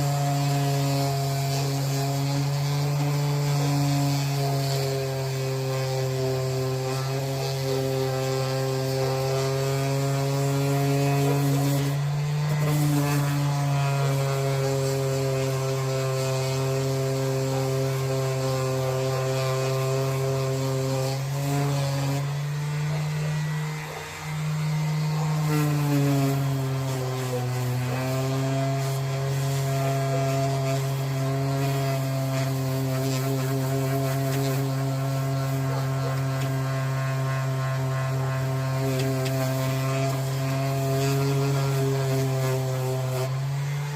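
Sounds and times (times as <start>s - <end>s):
power tool motor hum: 0.0s - 43.9s.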